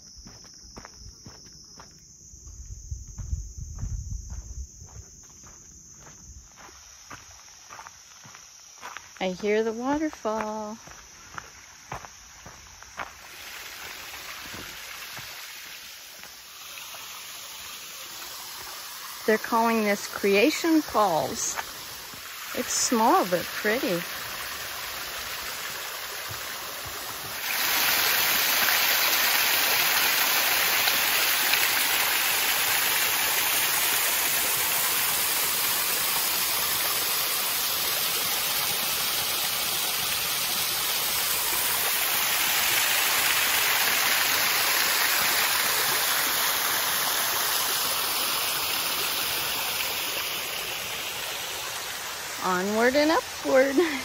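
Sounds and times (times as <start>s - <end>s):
small waterfall splashing: 9.8s - 54.0s.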